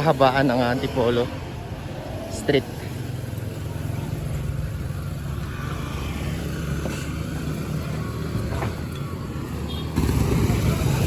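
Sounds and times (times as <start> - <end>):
passing street traffic: 0.0 - 11.0.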